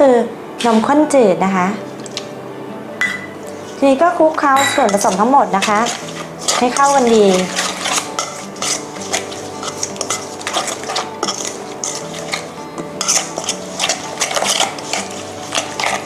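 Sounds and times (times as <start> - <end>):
metal spoon scraping bowl: 3.1 - 16.0.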